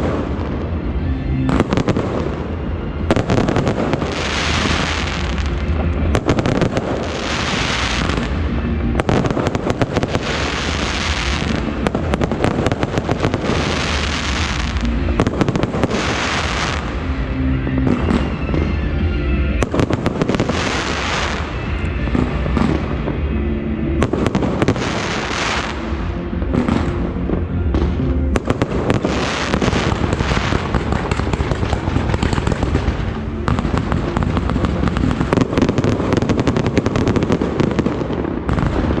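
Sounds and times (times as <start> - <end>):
faint music: 0.0 - 39.0
fireworks bangs and crackles: 0.0 - 39.0.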